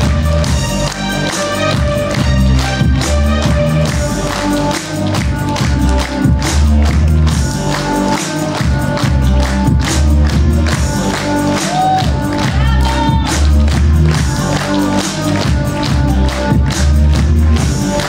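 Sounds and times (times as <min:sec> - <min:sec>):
music with steady beat: 0:00.0 - 0:18.0.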